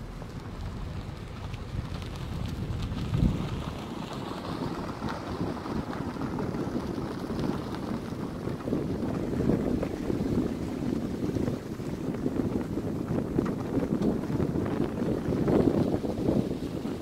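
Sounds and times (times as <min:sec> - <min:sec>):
vehicle driving on dirt road: 0:00.0 - 0:17.0
wind buffeting microphone: 0:00.0 - 0:17.0.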